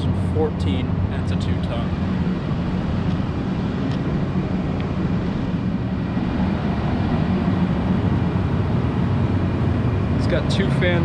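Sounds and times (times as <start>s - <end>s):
air conditioner units humming: 0.0s - 11.0s.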